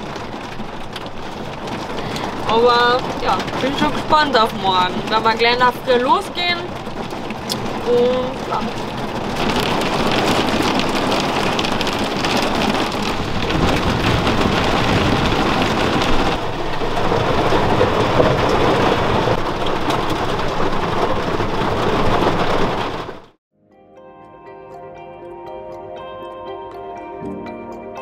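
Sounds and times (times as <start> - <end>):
heavy rain on vehicle: 0.0 - 23.4.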